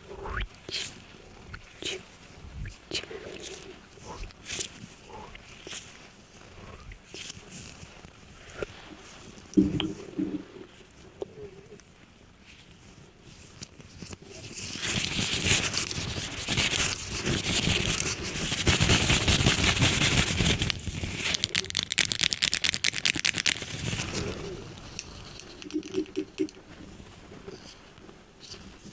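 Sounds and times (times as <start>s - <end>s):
scratching and crackling: 0.0s - 28.9s.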